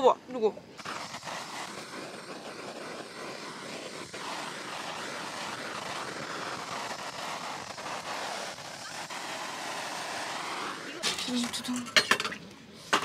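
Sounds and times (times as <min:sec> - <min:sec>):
gas blowtorch hissing: 0:00.0 - 0:13.0.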